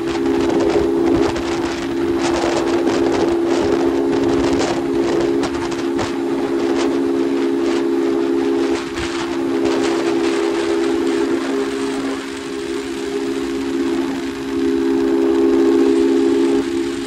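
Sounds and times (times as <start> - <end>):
motorcycle engine high revs: 0.0 - 17.0
wind on microphone: 0.0 - 17.0.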